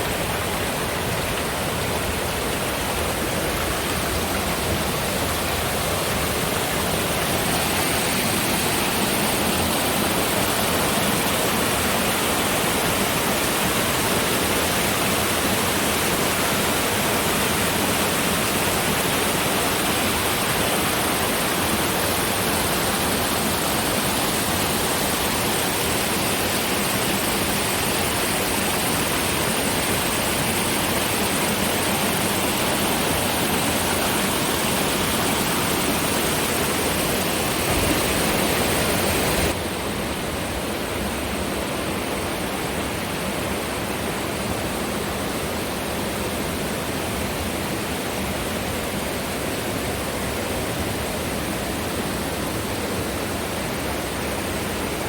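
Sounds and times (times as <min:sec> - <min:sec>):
whitewater rushing: 0:00.0 - 0:46.0.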